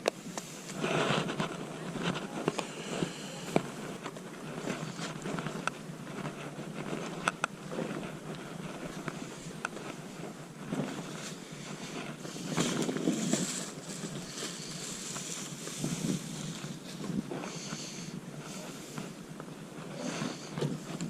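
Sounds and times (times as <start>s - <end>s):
outdoor background noise: 0.0s - 21.0s
wind on microphone: 0.0s - 21.0s.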